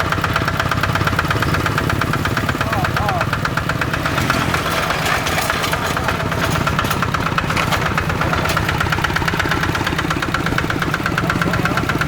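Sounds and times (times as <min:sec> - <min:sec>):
diesel engine knocking: 0:00.0 - 0:12.0.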